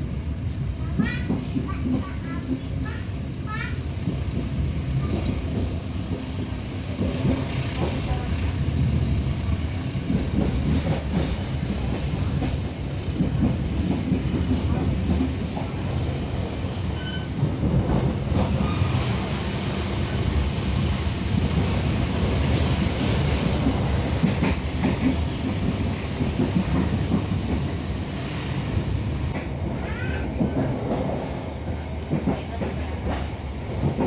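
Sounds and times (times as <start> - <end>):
train rumble inside coach: 0.0 - 34.0.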